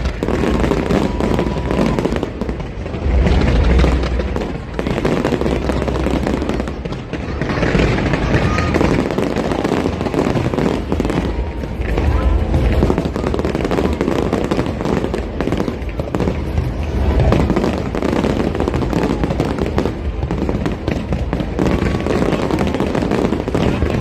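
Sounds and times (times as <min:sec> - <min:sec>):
fireworks crackling and popping: 0:00.0 - 0:24.0
fireworks low booms: 0:00.0 - 0:24.0.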